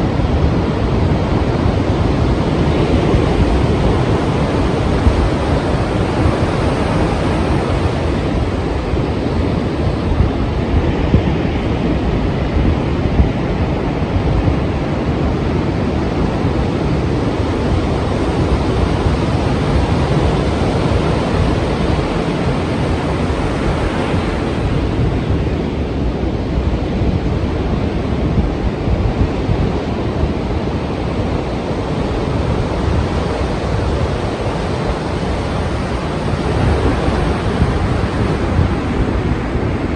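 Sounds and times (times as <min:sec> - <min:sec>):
ocean surf breaking waves: 0:00.0 - 0:39.9
wind: 0:00.0 - 0:39.9.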